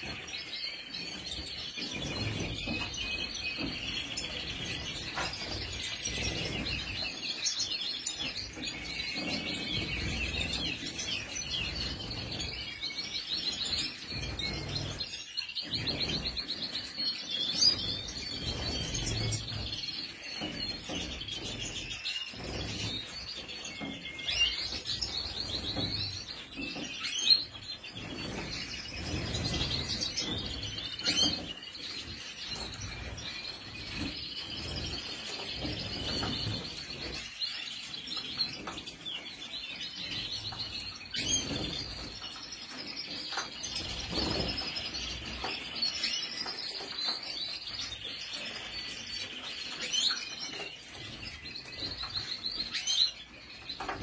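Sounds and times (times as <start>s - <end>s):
finches twittering and chirping: 0.0s - 54.0s.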